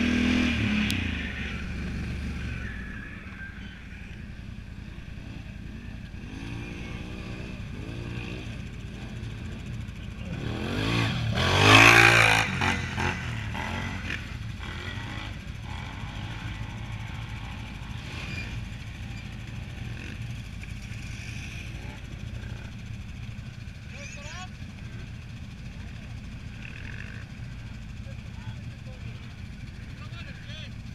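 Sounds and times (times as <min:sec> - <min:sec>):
atv engine revving: 0:00.0 - 0:30.9.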